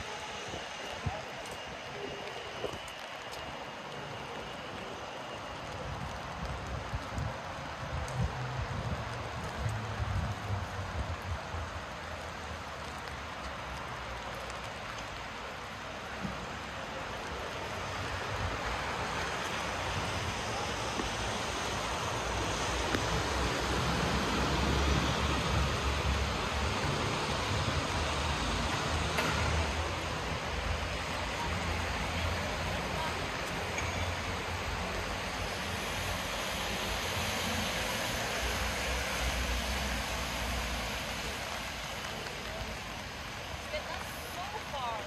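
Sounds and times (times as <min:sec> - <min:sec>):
low rumble of traffic: 0:00.0 - 0:45.0
rainfall hiss: 0:00.0 - 0:45.0
tyres on wet road: 0:00.0 - 0:45.0.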